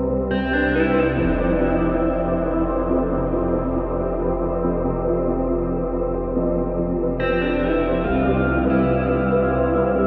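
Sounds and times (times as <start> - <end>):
ambient music with sustained chords: 0.0 - 10.0.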